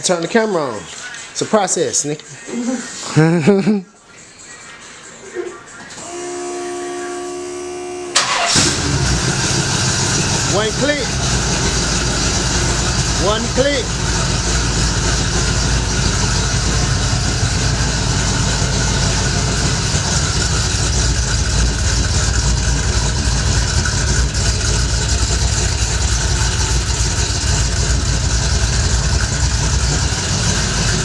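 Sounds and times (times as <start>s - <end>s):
car engine idling: 6.0s - 31.0s.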